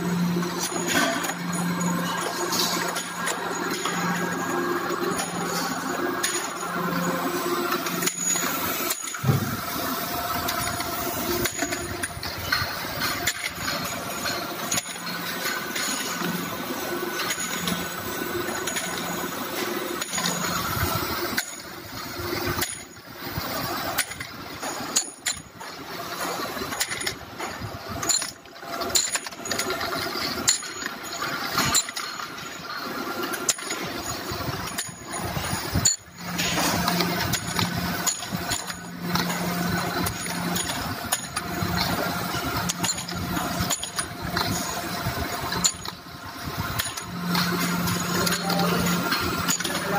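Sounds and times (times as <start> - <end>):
grinding machine humming: 0.0 - 49.9
metal workpieces clinking: 0.1 - 49.9.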